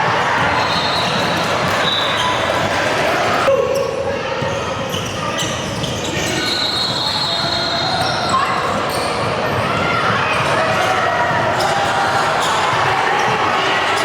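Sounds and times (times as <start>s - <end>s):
crowd voices: 0.0s - 14.0s.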